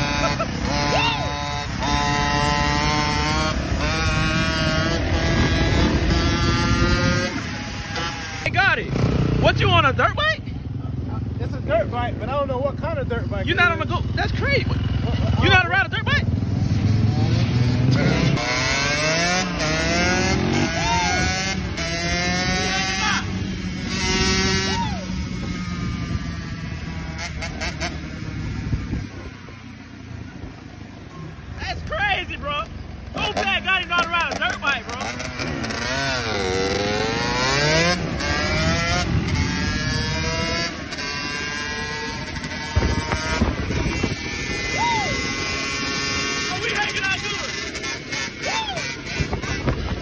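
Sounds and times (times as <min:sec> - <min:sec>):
dirt bike engine revving: 0:00.0 - 0:10.4, 0:13.2 - 0:31.2, 0:33.1 - 0:50.0.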